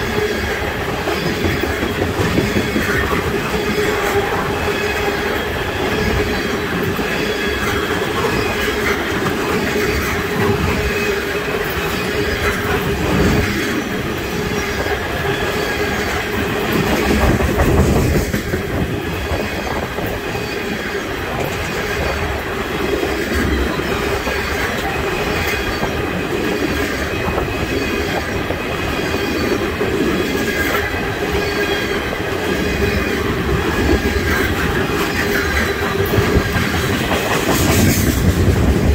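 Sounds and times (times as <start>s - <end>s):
high wheel squeal: 0.0s - 38.4s
clickety-clack over rail joints: 0.0s - 38.9s
train wheels rumbling on rail: 0.0s - 38.9s.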